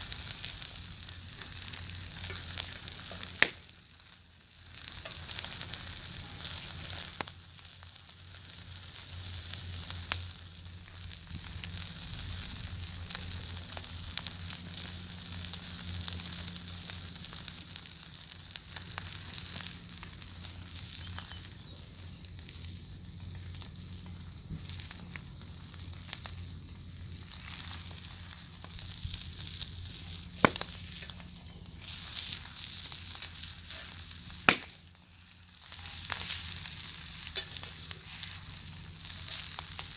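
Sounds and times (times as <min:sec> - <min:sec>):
bacon sizzling in a pan: 0:00.0 - 0:39.9
fire crackling: 0:00.0 - 0:39.9.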